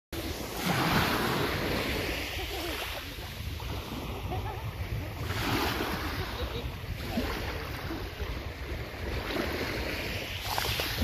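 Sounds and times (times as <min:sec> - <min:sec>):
sea water lapping at shore: 0:00.2 - 0:11.0
wind buffeting microphone: 0:00.2 - 0:11.0.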